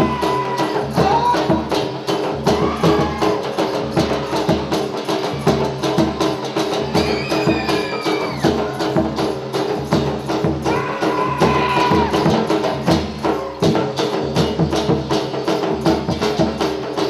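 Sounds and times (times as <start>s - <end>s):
folk dance music with percussion: 0.0s - 17.0s.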